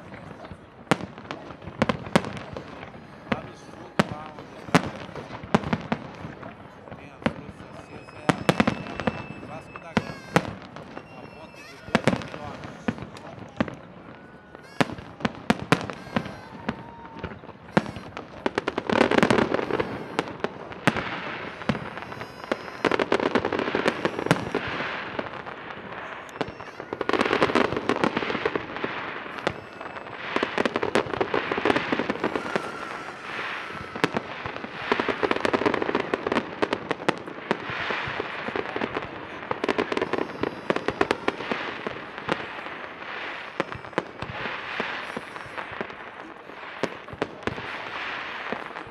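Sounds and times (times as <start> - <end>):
crackling firework bursts: 0.0 - 48.9
firework bangs: 0.0 - 48.9.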